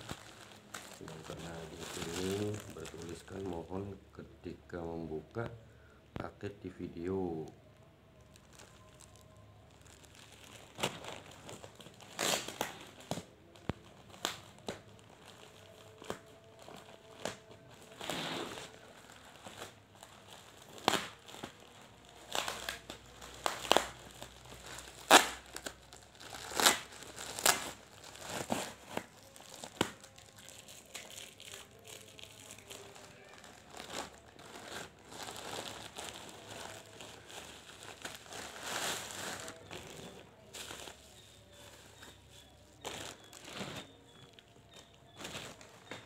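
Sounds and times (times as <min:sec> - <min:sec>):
plastic bag tearing and crumpling: 0:00.0 - 0:03.9, 0:08.1 - 0:46.0.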